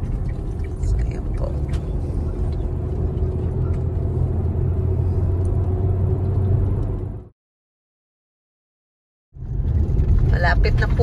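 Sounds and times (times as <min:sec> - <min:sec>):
car engine and tyre rumble: 0:00.0 - 0:07.3, 0:09.4 - 0:11.0.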